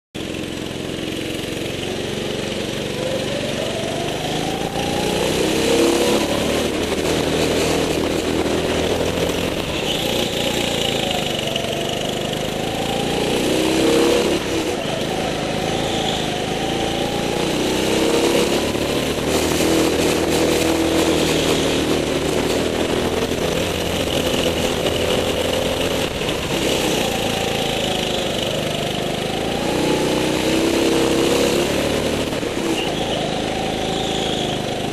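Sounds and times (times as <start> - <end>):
go-kart engine: 0.2 - 34.9.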